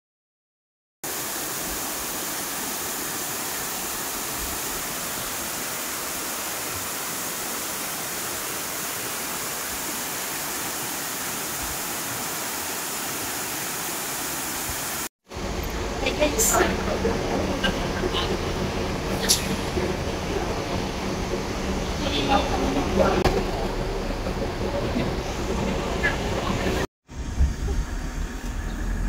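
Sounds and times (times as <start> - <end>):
waterfall rushing: 1.1 - 26.9.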